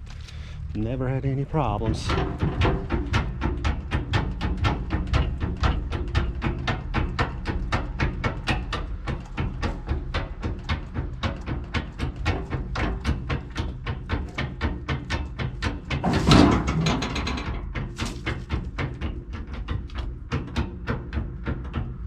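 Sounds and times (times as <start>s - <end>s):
engine idling with ticking: 0.0s - 16.1s, 17.3s - 22.0s
engine clatter: 0.0s - 22.0s.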